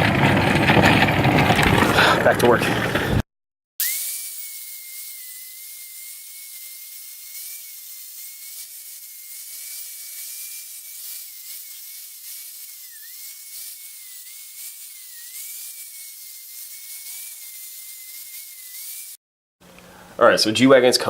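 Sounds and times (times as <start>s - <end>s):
power tool whining: 0.0s - 3.2s, 3.8s - 20.1s.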